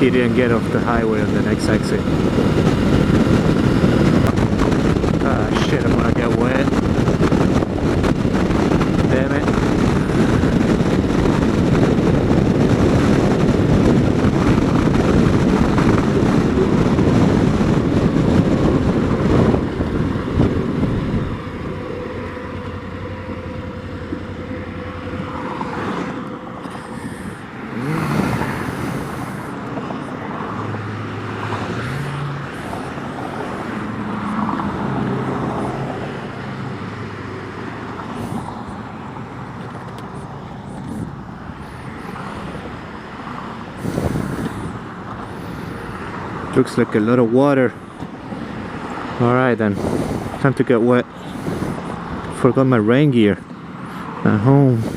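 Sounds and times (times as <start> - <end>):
motorcycle engine: 0.0 - 46.5
wind rush on microphone: 0.0 - 54.9.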